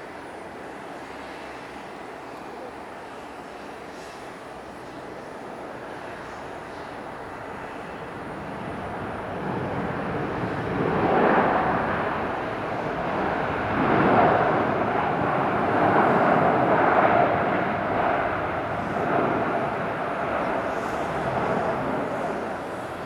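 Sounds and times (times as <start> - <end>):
jet airliner passing: 0.0 - 23.0.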